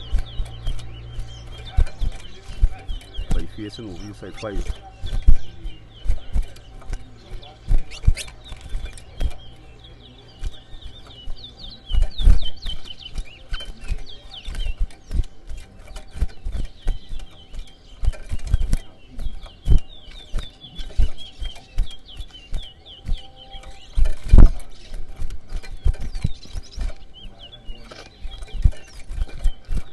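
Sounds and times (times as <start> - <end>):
finch singing quick chirps: 0.0 - 29.9
low thumps and clicks: 0.0 - 29.9.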